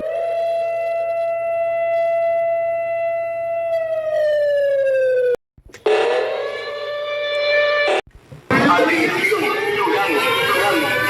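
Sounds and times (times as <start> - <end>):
alarm siren: 0.0 - 8.0, 9.0 - 11.0.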